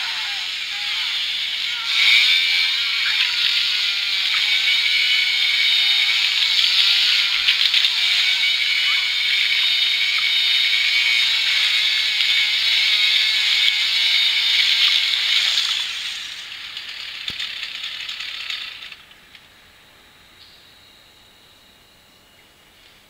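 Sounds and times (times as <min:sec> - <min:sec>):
chainsaw running: 0:00.0 - 0:22.1.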